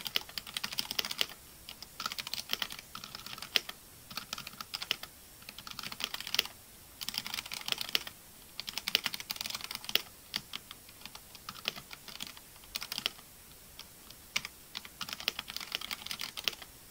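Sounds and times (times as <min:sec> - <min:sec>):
mechanical keyboard typing: 0:00.0 - 0:13.2, 0:14.3 - 0:16.7.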